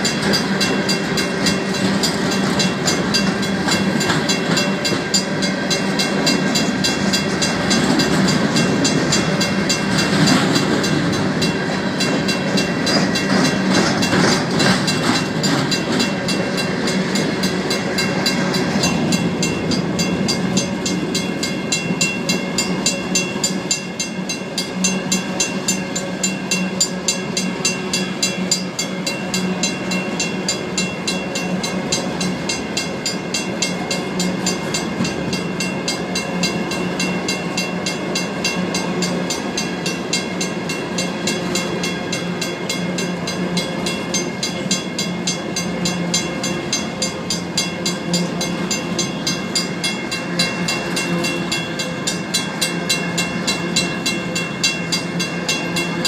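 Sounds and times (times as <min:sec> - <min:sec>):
crossing bell ringing: 0:00.0 - 0:56.0
train wheels rumbling: 0:00.0 - 0:56.0.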